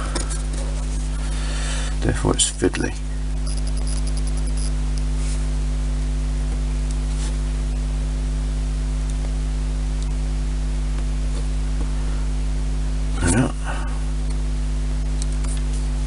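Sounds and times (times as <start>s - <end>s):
low mains hum: 0.0s - 16.0s.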